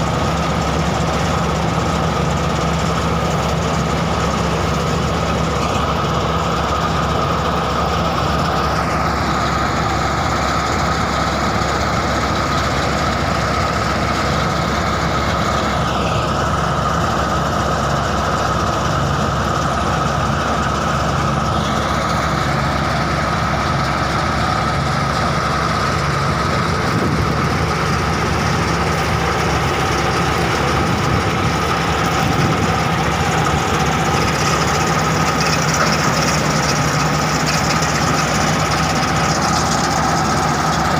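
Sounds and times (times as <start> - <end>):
machine engine running: 0.0 - 40.9.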